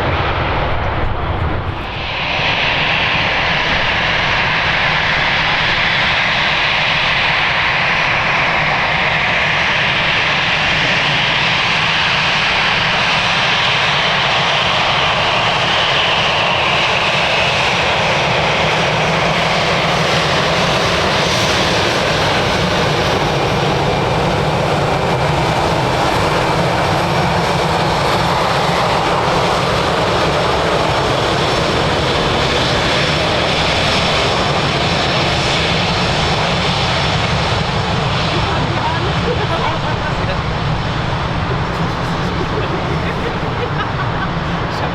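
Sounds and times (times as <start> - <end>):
jet engines rushing: 0.0 - 44.9.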